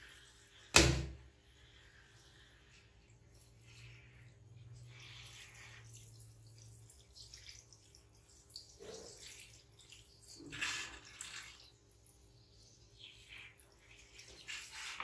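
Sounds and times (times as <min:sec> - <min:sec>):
shower water splashing on tiles: 0:00.0 - 0:15.0.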